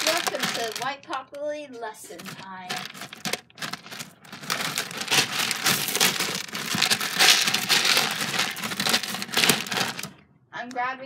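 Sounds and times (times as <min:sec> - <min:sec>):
cat digging in litter pellets: 0:00.0 - 0:01.0, 0:02.2 - 0:10.1.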